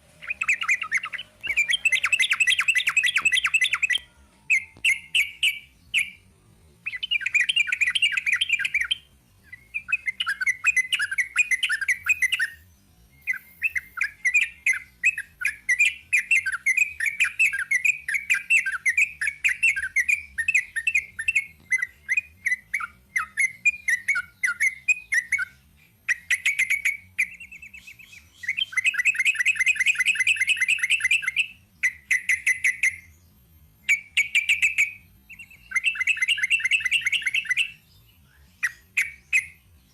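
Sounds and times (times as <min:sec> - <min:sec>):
bulbul singing rapid chattering song: 0:00.0 - 0:39.9.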